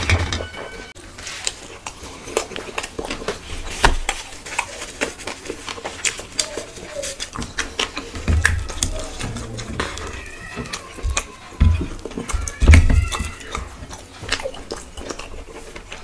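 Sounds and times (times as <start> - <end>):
wet chewing and lip-smacking: 1.0 - 16.0.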